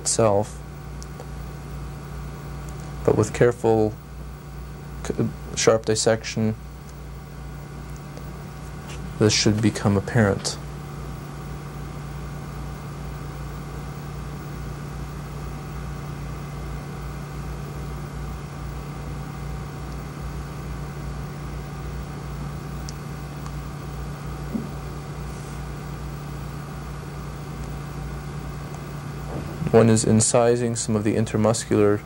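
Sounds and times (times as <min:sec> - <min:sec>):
low machinery hum: 0:00.0 - 0:32.0.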